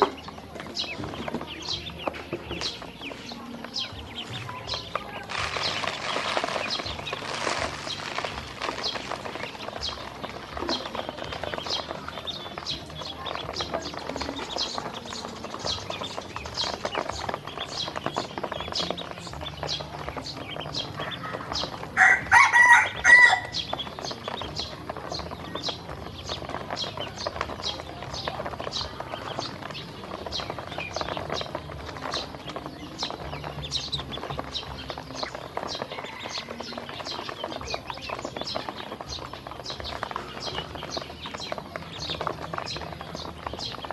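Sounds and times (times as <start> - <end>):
ducklings peeping: 0.0 - 43.9
loud farm bird call: 0.0 - 43.9.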